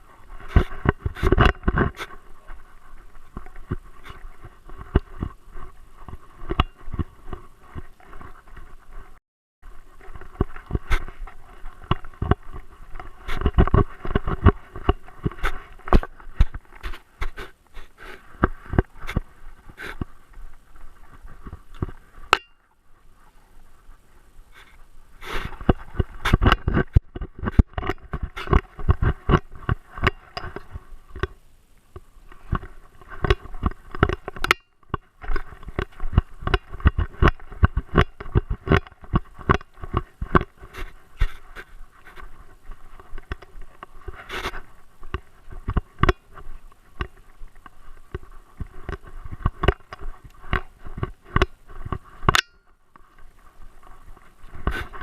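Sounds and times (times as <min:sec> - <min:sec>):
rapid knocks and scrapes: 0:00.0 - 0:22.5, 0:24.5 - 0:31.4, 0:32.3 - 0:55.0.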